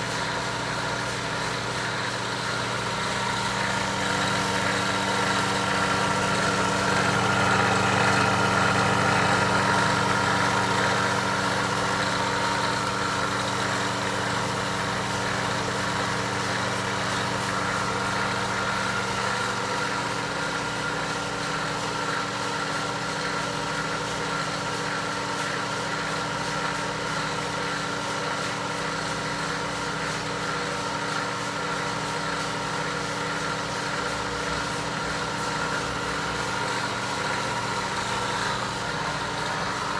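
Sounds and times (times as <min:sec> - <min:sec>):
blower motor humming and whining: 0:00.0 - 0:39.9.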